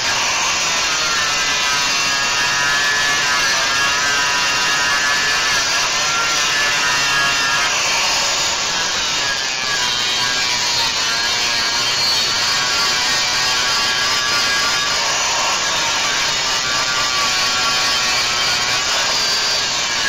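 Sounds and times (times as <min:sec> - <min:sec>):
power tool cutting metal: 0:00.0 - 0:20.0.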